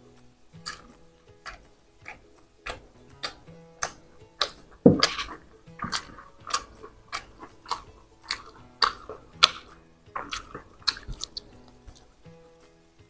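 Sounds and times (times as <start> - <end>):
person chewing wetly: 0.6 - 12.2.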